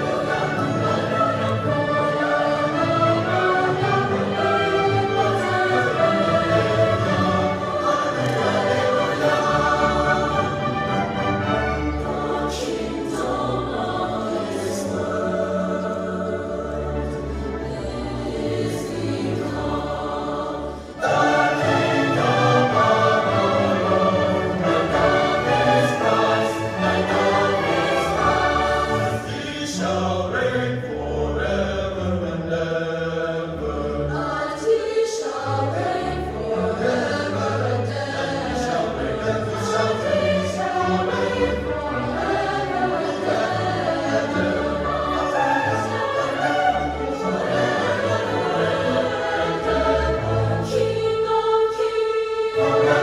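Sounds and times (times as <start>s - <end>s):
mixed choir singing: 0.0s - 53.0s
string orchestra: 0.0s - 53.0s.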